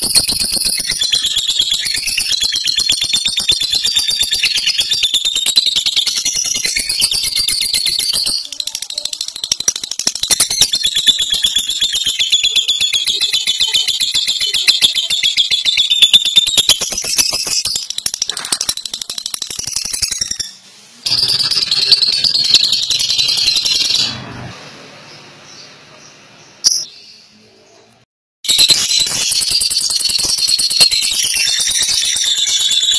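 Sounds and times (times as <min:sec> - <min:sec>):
lovebird rattling chatter: 0:00.0 - 0:14.7, 0:16.0 - 0:20.5, 0:21.1 - 0:24.1, 0:28.5 - 0:32.9.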